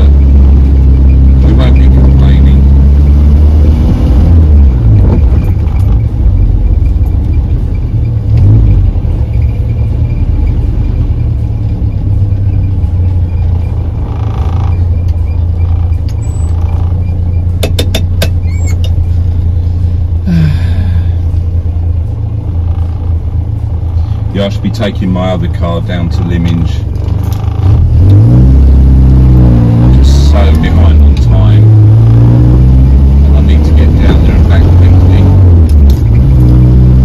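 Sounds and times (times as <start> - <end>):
car engine low drone: 0.0 - 37.0.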